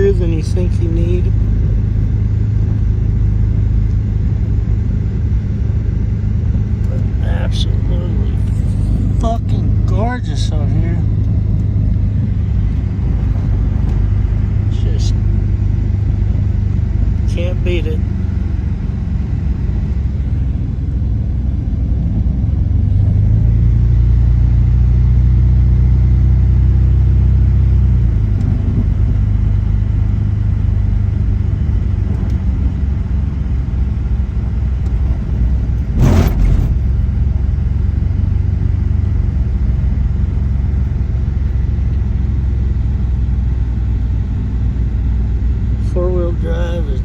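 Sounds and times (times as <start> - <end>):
vehicle engine and tyres rumbling: 0.0 - 47.0.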